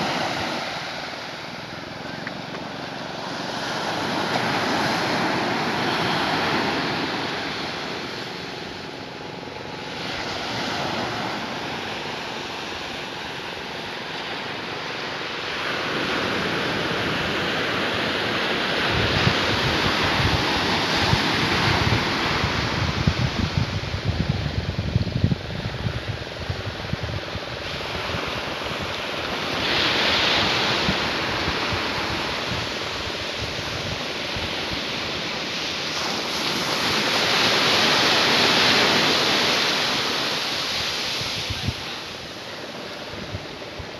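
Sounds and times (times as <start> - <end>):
sea surf breaking on a beach: 0.0 - 43.9.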